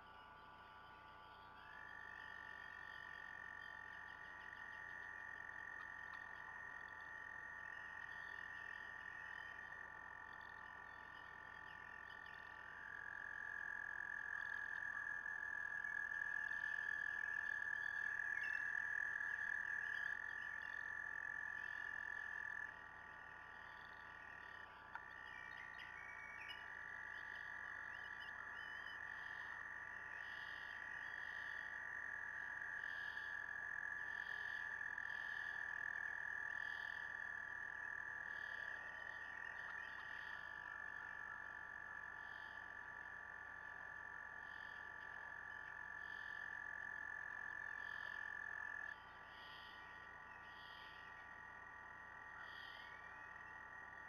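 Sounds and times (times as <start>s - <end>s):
frogs trilling: 0.0s - 54.0s.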